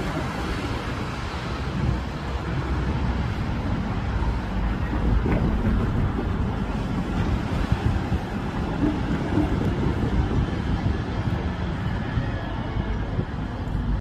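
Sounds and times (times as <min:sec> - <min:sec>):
bus driving off: 0:00.0 - 0:14.0
road traffic: 0:00.0 - 0:14.0
wind buffeting microphone: 0:00.0 - 0:14.0.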